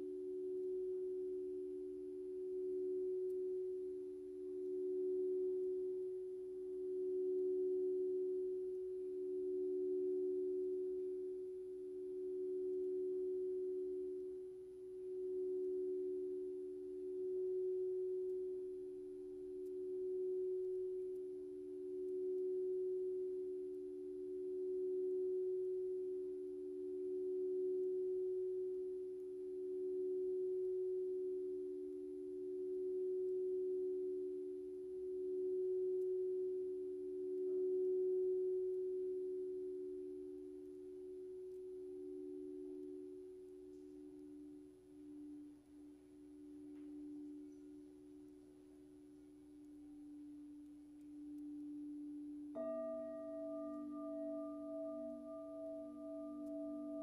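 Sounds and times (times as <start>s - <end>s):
two steady electronic pure tones: 0.0s - 57.0s.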